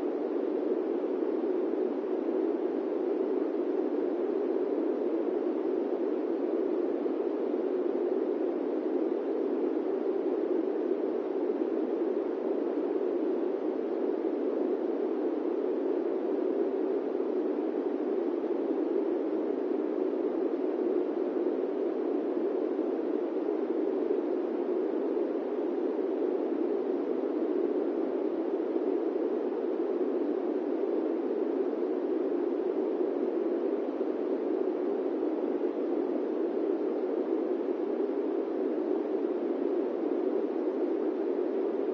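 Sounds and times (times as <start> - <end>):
airplane cabin white noise: 0.0 - 41.9.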